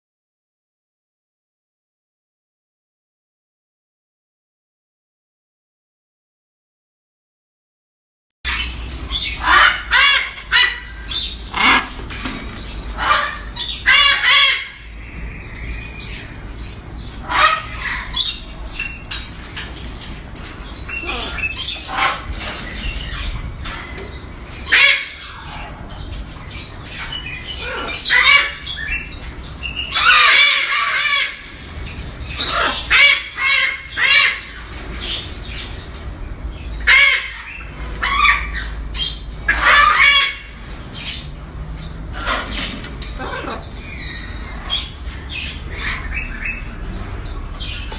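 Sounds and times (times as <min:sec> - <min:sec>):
birds squawking: 0:08.5 - 0:47.9.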